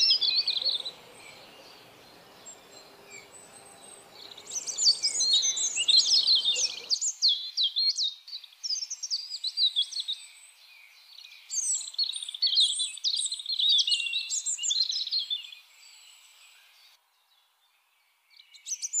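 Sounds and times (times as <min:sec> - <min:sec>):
robin singing: 0:00.0 - 0:17.4.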